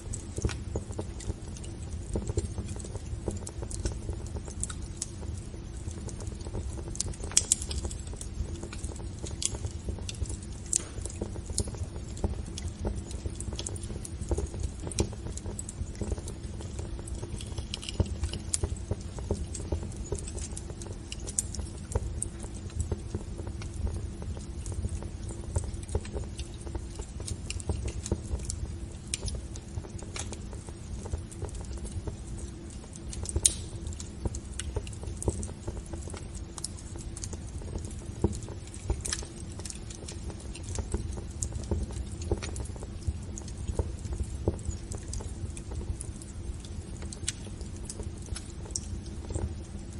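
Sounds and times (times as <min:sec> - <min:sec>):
low steady rumble: 0:00.0 - 0:49.9
wood fire crackling: 0:00.0 - 0:49.9.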